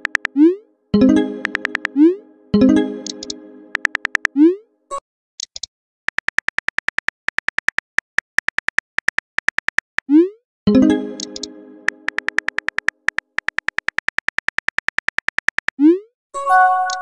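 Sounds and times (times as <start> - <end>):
keyboard typing clicks: 0.0 - 4.4, 5.4 - 10.0, 10.9 - 15.8.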